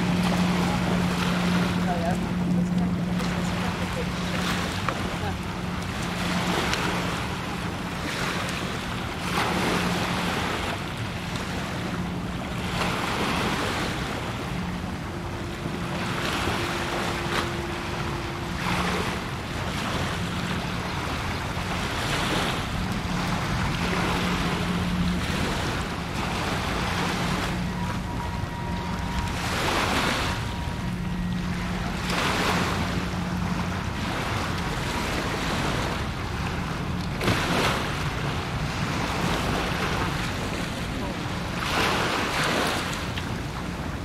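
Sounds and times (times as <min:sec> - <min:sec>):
low steady hum: 0:00.0 - 0:44.0
water lapping against shore: 0:00.0 - 0:44.0.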